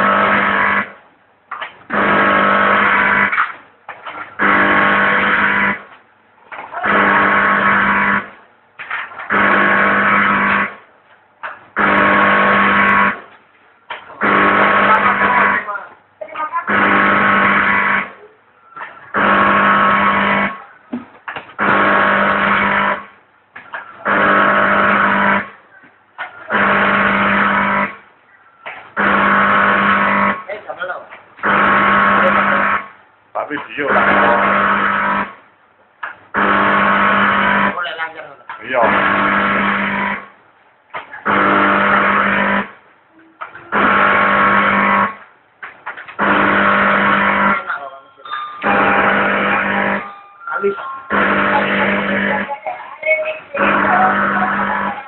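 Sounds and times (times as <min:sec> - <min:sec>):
packing machine buzzing hum: 0:00.0 - 0:33.0, 0:33.7 - 0:40.4, 0:41.0 - 0:47.9, 0:48.6 - 0:55.0.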